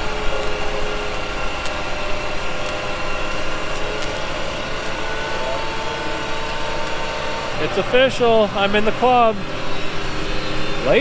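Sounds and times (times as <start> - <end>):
engine and generator running: 0.0 - 11.0
steady whining tones: 0.0 - 11.0.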